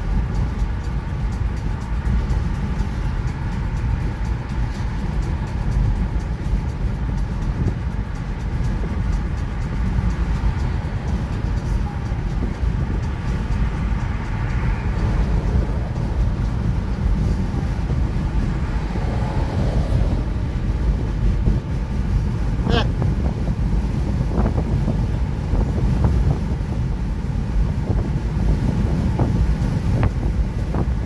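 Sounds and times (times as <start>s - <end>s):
car road noise inside cabin: 0.0s - 31.0s.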